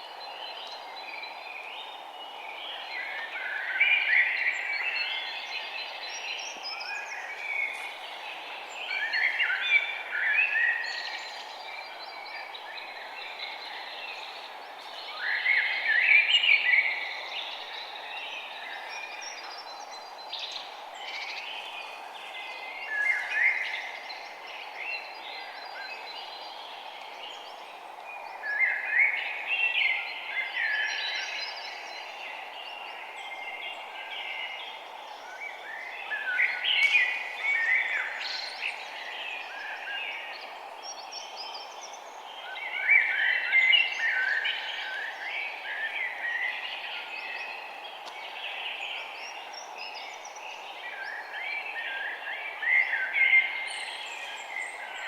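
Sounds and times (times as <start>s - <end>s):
songbirds chirping and singing: 0.0s - 55.0s
steady low background hiss: 0.0s - 55.0s.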